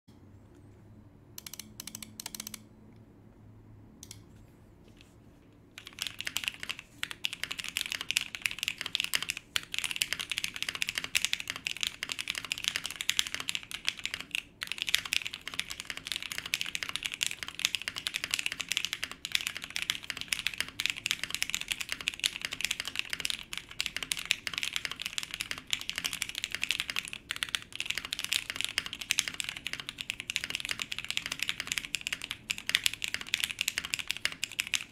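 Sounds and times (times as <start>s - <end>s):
mechanical keyboard typing: 1.4s - 2.6s, 5.8s - 34.9s.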